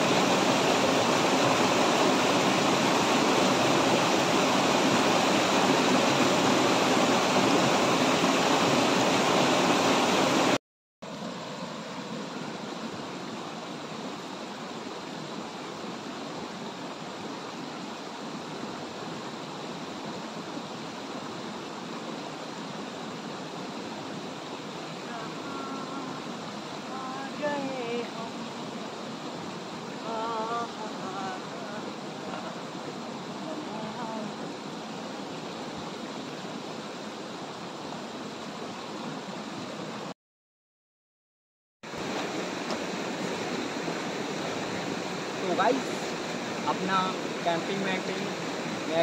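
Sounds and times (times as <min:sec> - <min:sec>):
stream flowing over stones: 0:00.0 - 0:40.2, 0:41.8 - 0:49.0
water rushing over waterfall: 0:00.0 - 0:40.2, 0:41.9 - 0:49.0.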